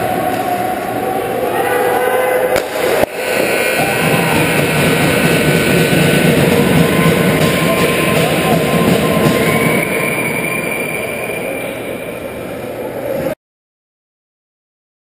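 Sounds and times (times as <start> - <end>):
loud rink noise: 0.0 - 13.4.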